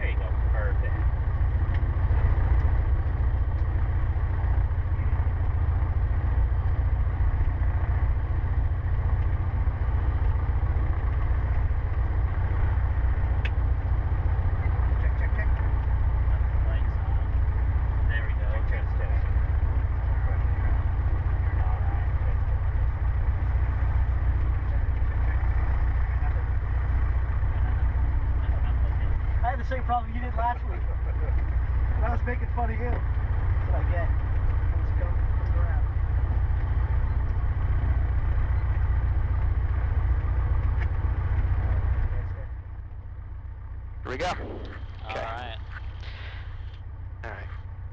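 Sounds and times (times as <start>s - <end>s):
aircraft engine idling: 0.0s - 47.9s.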